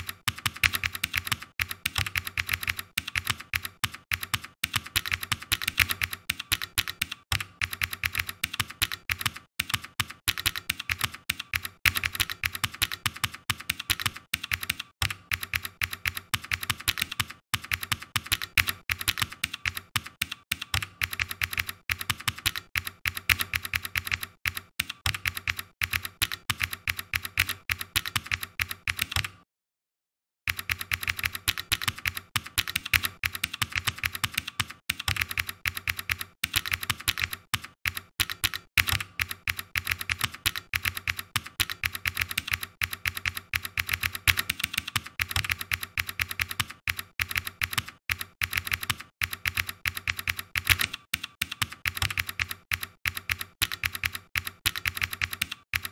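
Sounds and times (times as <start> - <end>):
typing on computer keyboard: 0.0 - 29.4, 30.5 - 55.9.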